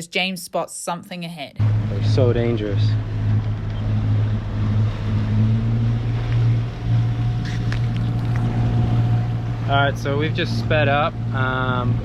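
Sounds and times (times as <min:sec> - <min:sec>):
boat engine droning: 0:01.6 - 0:12.0
water rushing: 0:01.6 - 0:12.0.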